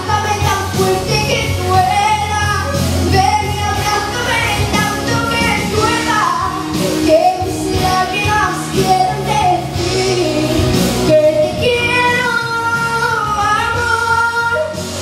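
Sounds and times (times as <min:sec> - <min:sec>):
piano accompaniment: 0:00.0 - 0:15.0
woman singing a pop ballad: 0:00.0 - 0:15.0.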